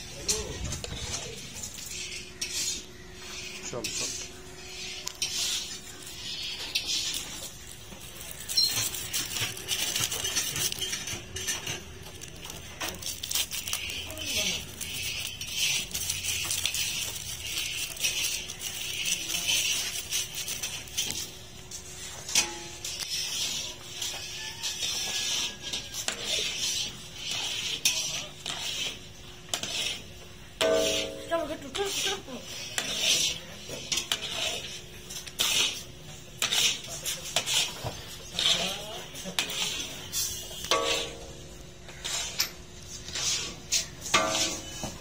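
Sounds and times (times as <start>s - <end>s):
metal spatula scraping a pan: 0.0s - 45.0s.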